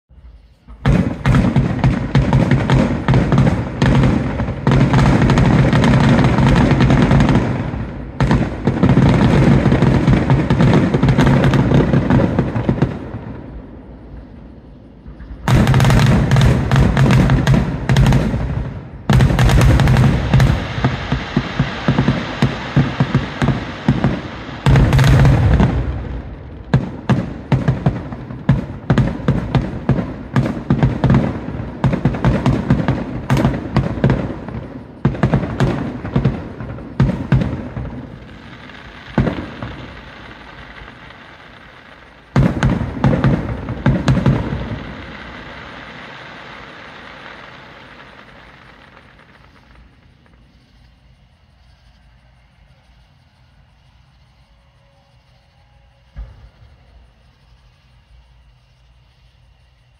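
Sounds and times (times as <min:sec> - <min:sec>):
fireworks bursts and crackle: 0:00.1 - 0:59.9.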